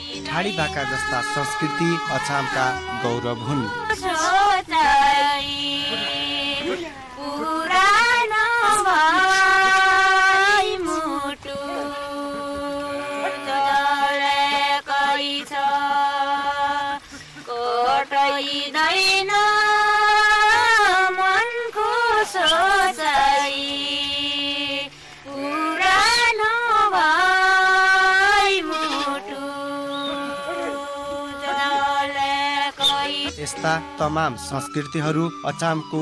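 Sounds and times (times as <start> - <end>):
women singing folk song: 0.0 - 34.8.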